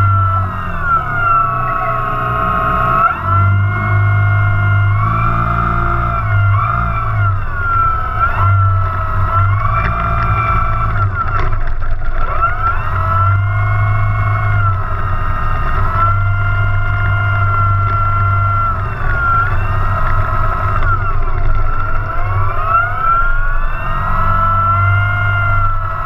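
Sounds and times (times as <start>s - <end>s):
low propeller hum: 0.0s - 26.0s
model airplane motor whining: 0.0s - 26.0s.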